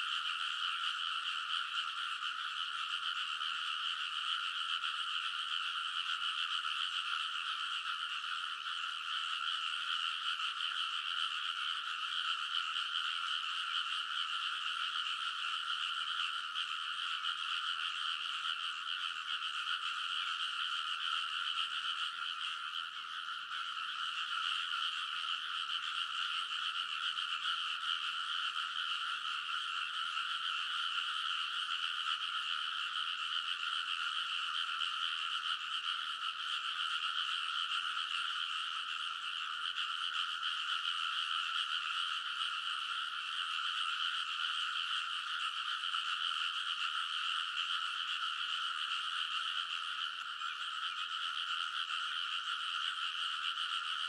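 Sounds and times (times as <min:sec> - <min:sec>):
chorus of frogs croaking: 0:00.0 - 0:54.0.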